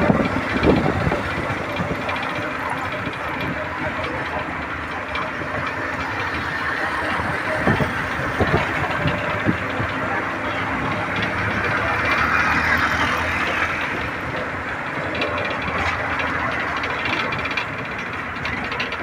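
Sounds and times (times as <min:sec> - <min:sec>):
light rattles and clicks: 0:00.0 - 0:19.0
vehicle road and engine noise: 0:00.0 - 0:19.0.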